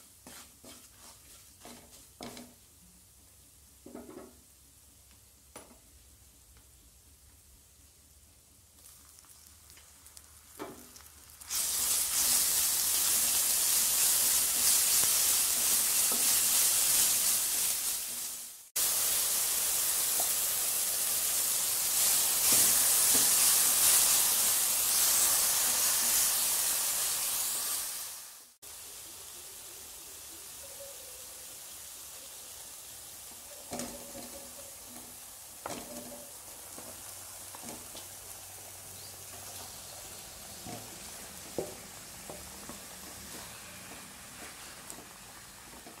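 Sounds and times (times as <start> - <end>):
paste sizzling in hot oil: 0.0 - 2.6, 8.7 - 46.0.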